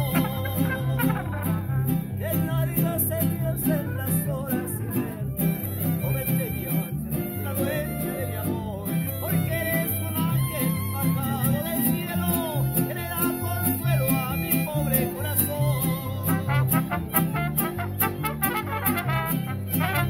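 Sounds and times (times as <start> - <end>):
deep bass guitar notes: 0.0 - 20.0
man singing: 0.0 - 20.0
strummed guitar: 0.0 - 20.0.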